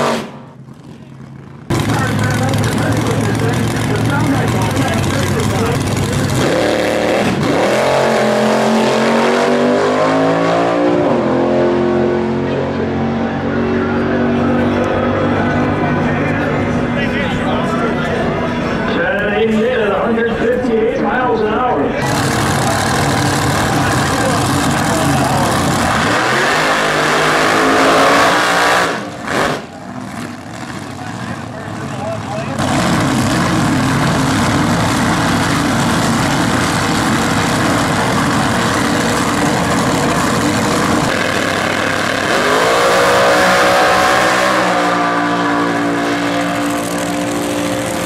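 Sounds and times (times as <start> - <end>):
dragster engine at full throttle: 0.0 - 19.6, 21.9 - 48.0.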